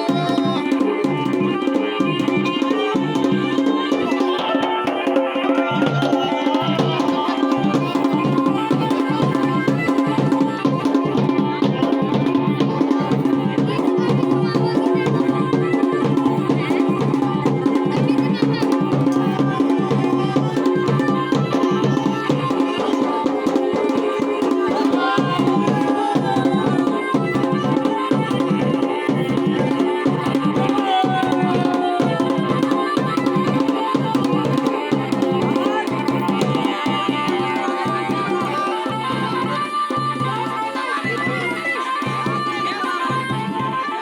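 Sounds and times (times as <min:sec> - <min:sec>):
drums in fast rhythm: 0:00.0 - 0:44.0.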